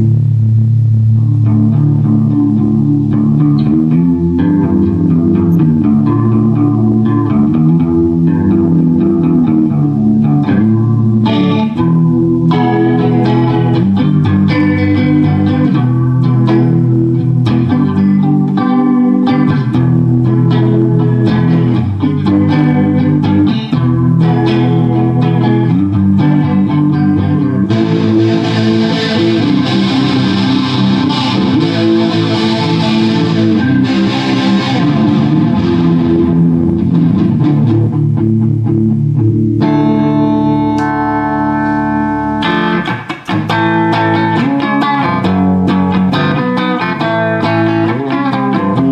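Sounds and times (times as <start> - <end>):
guitar music: 0.0 - 48.9.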